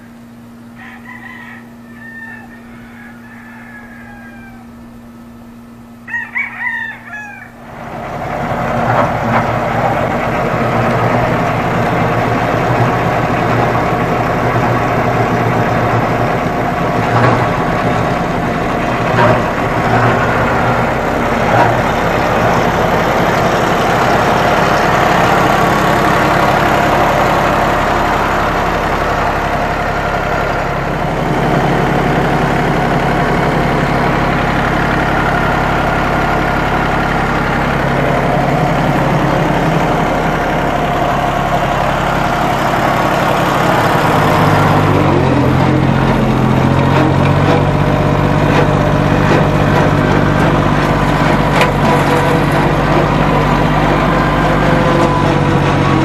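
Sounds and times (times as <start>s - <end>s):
lawn mower engine running: 7.6s - 56.0s.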